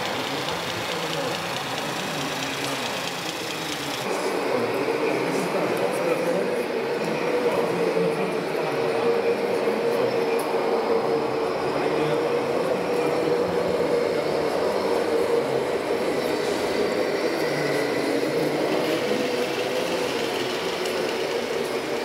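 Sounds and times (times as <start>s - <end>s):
murmur of voices: 0.0s - 22.0s
steady mechanical hum: 0.0s - 22.0s.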